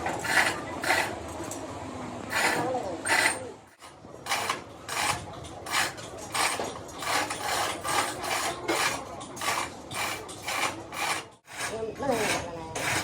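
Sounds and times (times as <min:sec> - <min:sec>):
rhythmic rasping scrapes: 0:00.0 - 0:01.2, 0:02.3 - 0:13.0.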